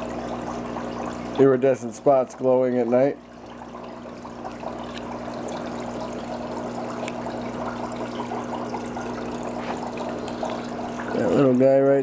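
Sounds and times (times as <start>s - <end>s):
water trickling and bubbling: 0.0s - 12.0s.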